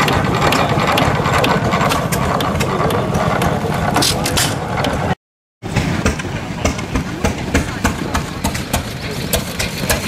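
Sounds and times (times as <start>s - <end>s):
engine running with sharp knocking: 0.0s - 10.0s.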